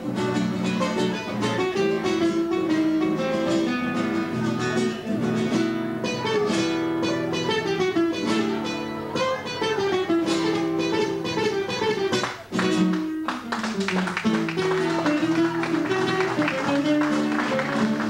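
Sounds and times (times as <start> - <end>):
classical guitar duet: 0.0 - 18.0.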